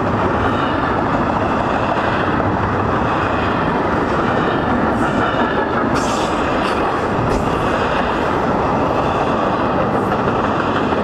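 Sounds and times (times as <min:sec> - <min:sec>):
steel wheels running on rails: 0:00.0 - 0:11.0.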